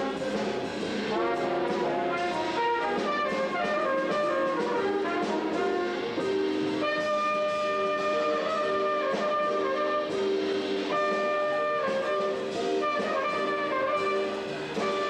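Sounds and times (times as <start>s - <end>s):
electric keyboard: 0.0s - 15.0s
trumpet melody: 0.0s - 15.0s.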